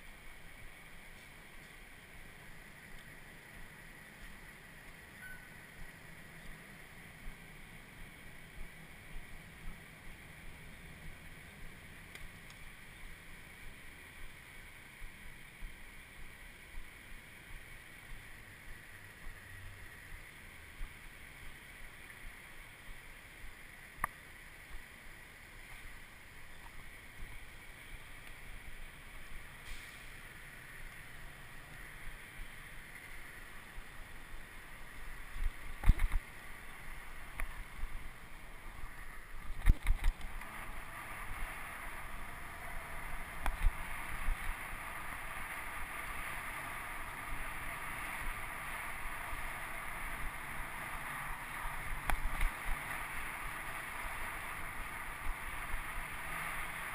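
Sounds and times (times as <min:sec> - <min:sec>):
bicycle tyre noise on road: 0:00.0 - 0:56.9.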